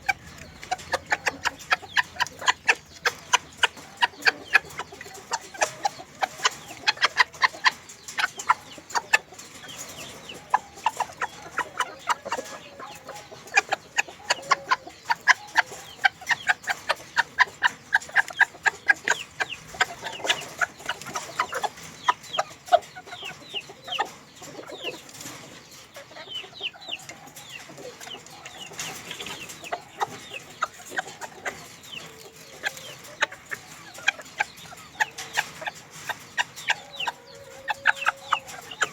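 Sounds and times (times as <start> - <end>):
chicken chirping calls: 0.0 - 38.9
chickens clucking: 0.0 - 38.9.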